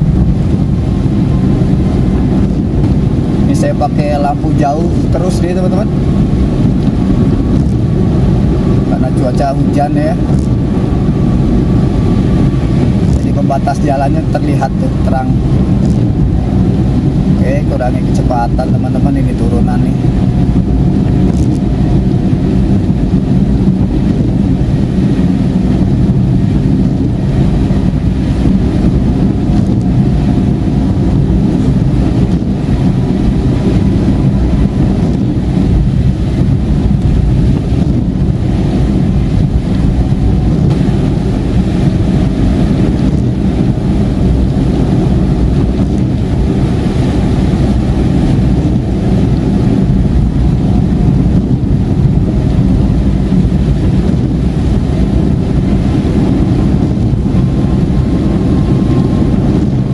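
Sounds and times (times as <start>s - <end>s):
tyres rumbling on wet road: 0.0s - 59.9s.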